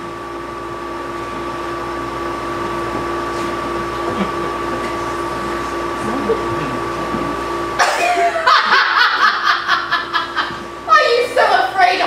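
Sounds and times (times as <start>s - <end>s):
two-tone steady hum: 0.0s - 12.0s.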